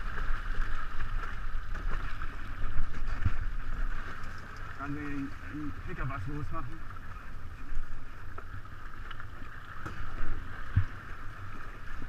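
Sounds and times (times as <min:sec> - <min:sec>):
water washing along hull: 0:00.0 - 0:12.0.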